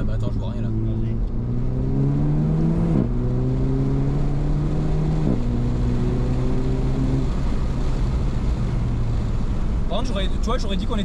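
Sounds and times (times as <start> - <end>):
car engine accelerating: 0.0 - 11.0
road and tyre noise: 0.0 - 11.0.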